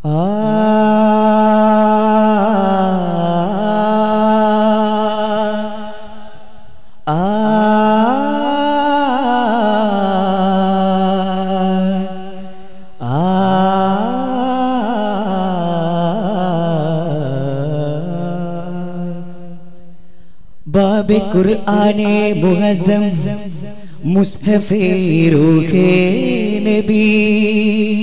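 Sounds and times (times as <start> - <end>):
man singing held vocal phrases: 0.0 - 6.4, 7.1 - 19.6, 20.6 - 28.0.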